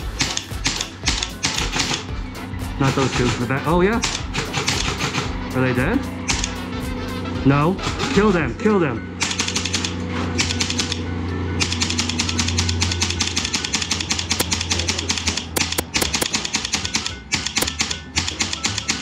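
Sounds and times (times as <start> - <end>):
steady low hum: 0.0 - 16.3.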